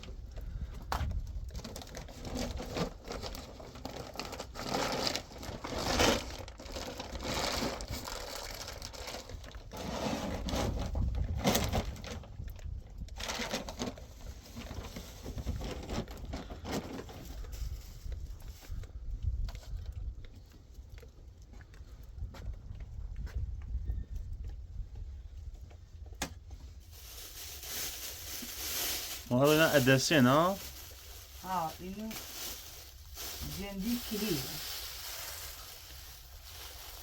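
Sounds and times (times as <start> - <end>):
crinkling and rustling: 0.0 - 23.7, 25.0 - 37.0.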